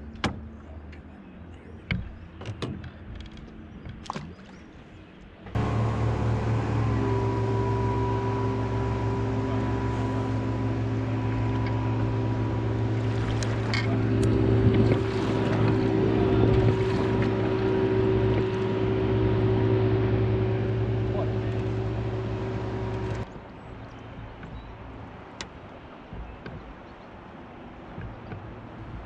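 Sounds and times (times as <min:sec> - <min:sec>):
outboard motor running: 0:05.4 - 0:29.0.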